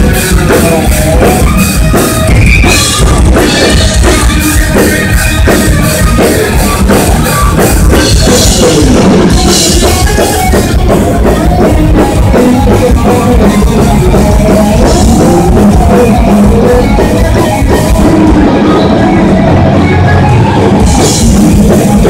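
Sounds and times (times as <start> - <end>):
distorted electric guitars: 0.0 - 22.0
pounding drum kit: 0.0 - 22.0.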